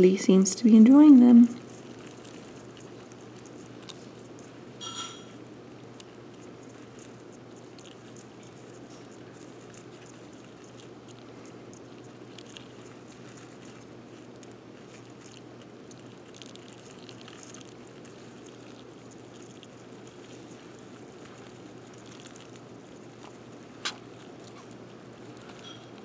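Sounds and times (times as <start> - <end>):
small clicks and scratches: 1.5 - 26.0.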